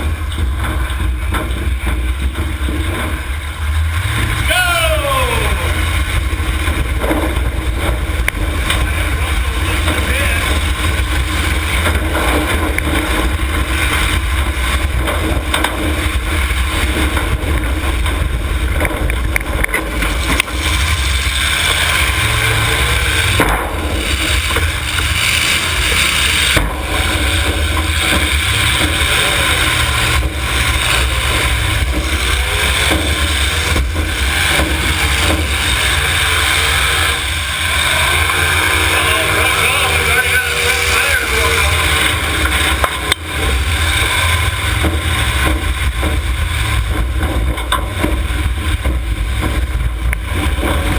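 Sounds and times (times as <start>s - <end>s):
car engines revving: 0.0s - 50.9s
sharp bangs of cars colliding: 5.8s - 50.9s.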